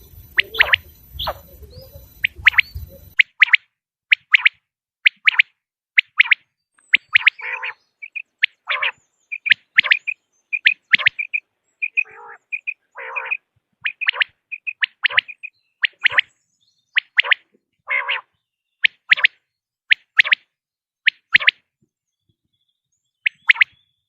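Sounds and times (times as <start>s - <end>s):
lower rasping bird calls: 0.0s - 16.3s, 16.9s - 20.5s
quails calling sharp high notes: 0.0s - 16.3s, 16.9s - 20.5s, 21.1s - 21.6s, 23.2s - 23.8s.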